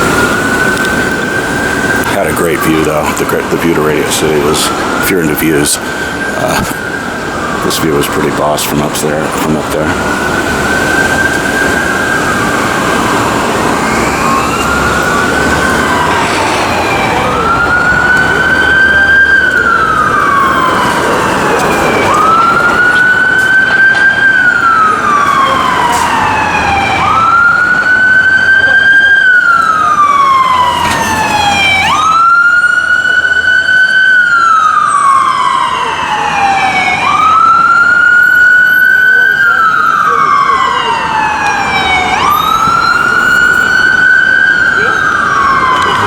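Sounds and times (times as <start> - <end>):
emergency vehicle siren wailing: 0.0 - 46.0
traffic noise: 0.0 - 46.0.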